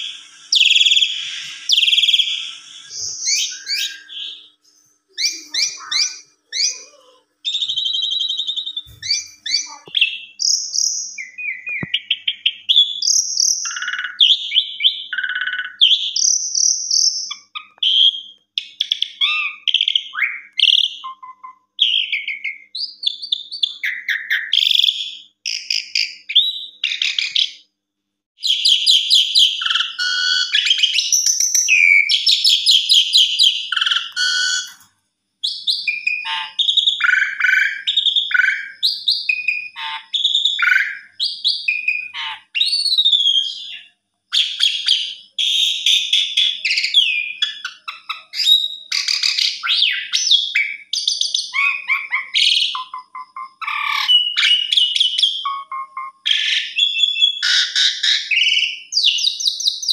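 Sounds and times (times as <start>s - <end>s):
starling singing: 0.0s - 27.6s, 28.4s - 59.9s.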